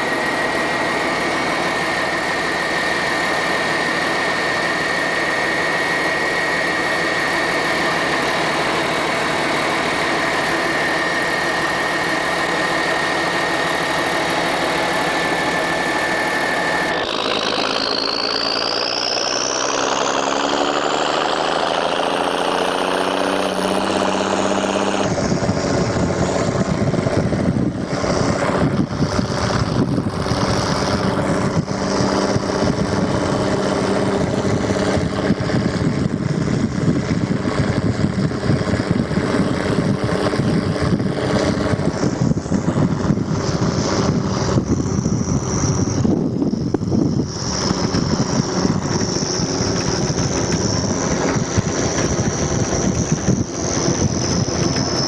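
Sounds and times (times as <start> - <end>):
low hum: 0.0 - 55.0
vehicle engine running: 0.0 - 55.0.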